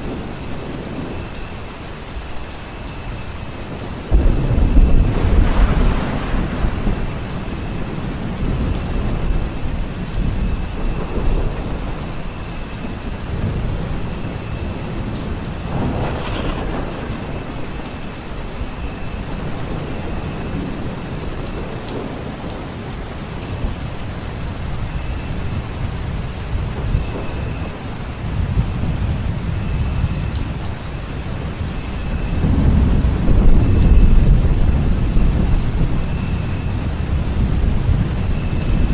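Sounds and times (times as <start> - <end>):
heavy rain: 0.0 - 38.9
rolling thunder: 3.1 - 38.9.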